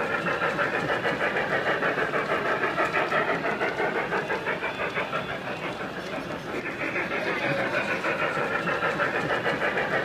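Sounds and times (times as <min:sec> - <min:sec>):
model steam train running: 0:00.0 - 0:10.0.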